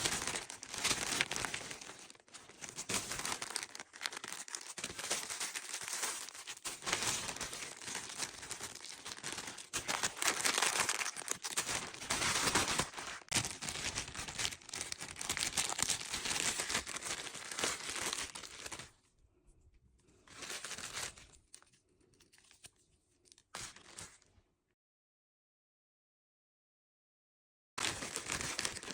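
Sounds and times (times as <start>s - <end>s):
packaging crinkling and tearing: 0.0s - 19.0s, 20.3s - 24.3s, 27.8s - 28.9s.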